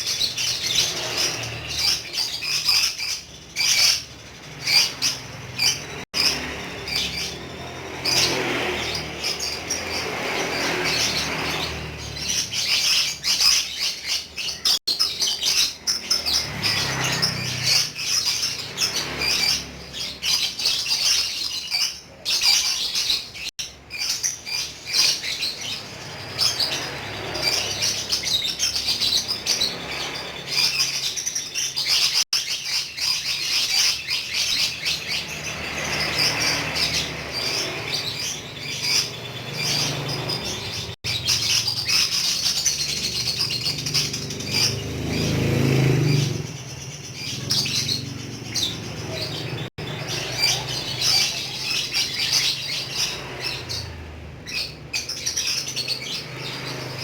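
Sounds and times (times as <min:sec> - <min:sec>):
lovebird chirping and trilling: 0:00.0 - 0:57.0.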